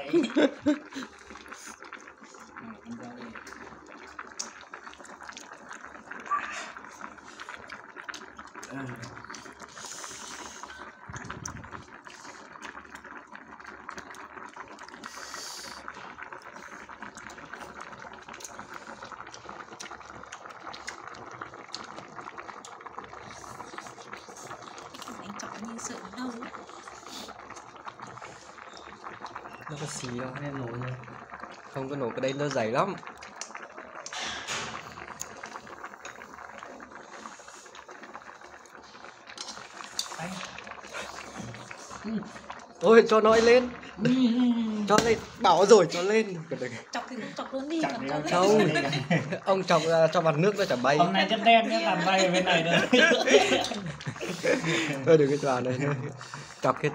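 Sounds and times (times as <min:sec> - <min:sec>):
broth boiling with crackling pops: 0:00.0 - 0:56.9.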